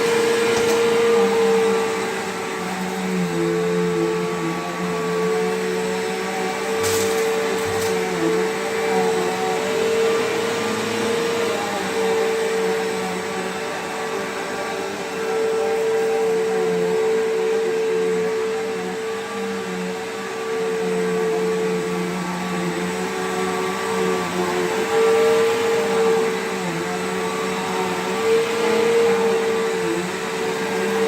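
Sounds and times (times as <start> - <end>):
upright vacuum running: 0.0 - 31.0.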